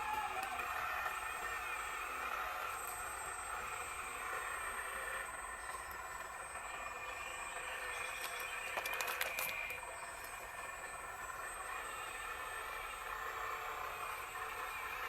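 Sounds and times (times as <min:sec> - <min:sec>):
excavator running: 0:00.0 - 0:15.0.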